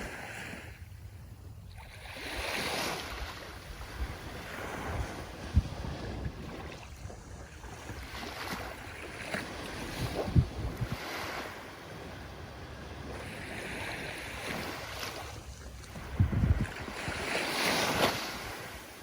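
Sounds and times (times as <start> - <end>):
wind buffeting microphone: 0.0 - 19.0
ocean surf washing: 2.0 - 19.0.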